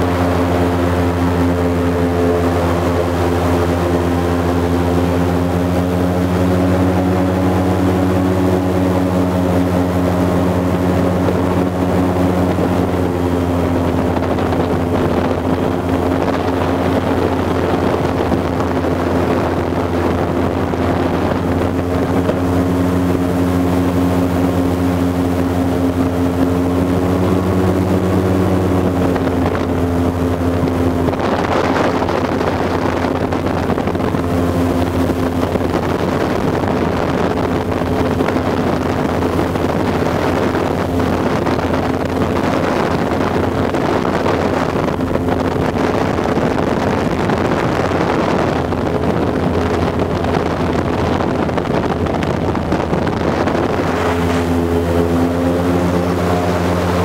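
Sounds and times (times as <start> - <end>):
airboat engine droning: 0.0 - 57.0.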